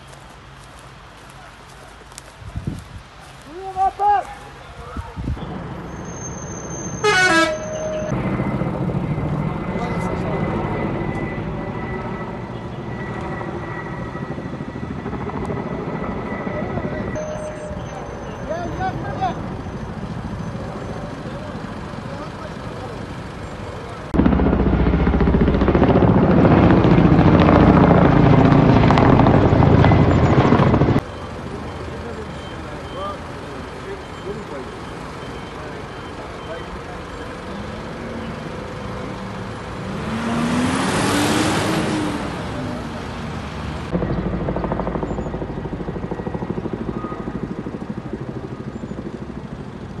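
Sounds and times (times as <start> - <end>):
helicopter rotor beating: 5.5 - 50.0.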